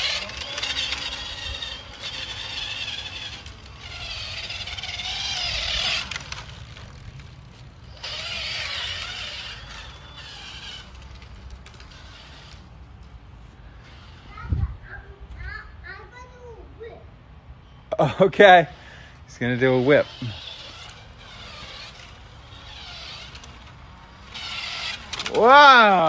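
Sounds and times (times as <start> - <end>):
electric motor whining: 0.0 - 14.4, 18.7 - 26.0.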